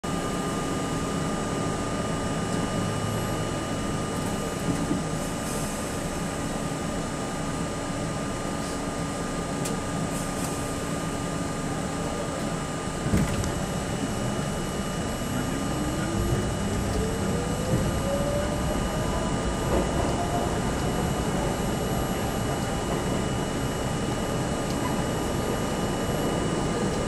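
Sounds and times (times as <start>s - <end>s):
subway train humming: 0.0s - 27.0s.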